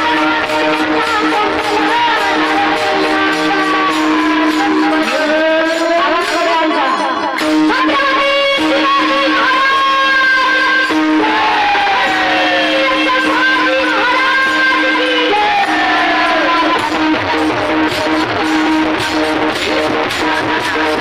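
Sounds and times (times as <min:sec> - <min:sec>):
woman singing devotional song: 0:00.0 - 0:19.2
instrumental accompaniment: 0:00.0 - 0:21.0.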